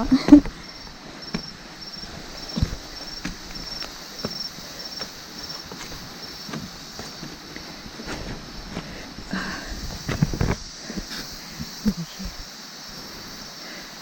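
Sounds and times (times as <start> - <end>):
footsteps on muddy trail: 0.0 - 12.4
insects chirping: 0.0 - 14.0
steady hiss: 0.0 - 14.0.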